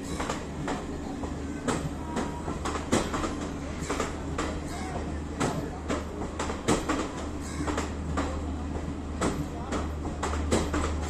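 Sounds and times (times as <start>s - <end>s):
train coaches rolling past: 0.0s - 11.0s.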